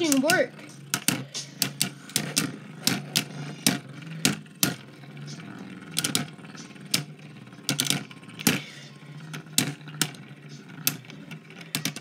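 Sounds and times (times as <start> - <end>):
spinning tops clashing: 0.0 - 12.0
spinning tops whirring: 0.0 - 12.0.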